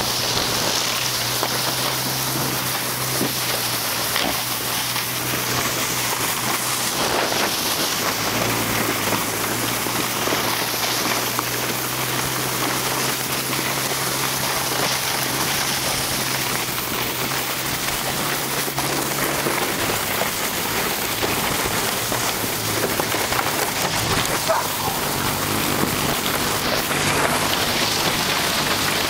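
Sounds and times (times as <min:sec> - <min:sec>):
engine drone: 0:00.0 - 0:29.0
plastic sled scraping over snow: 0:00.0 - 0:29.0
snow spraying hiss: 0:00.0 - 0:29.0.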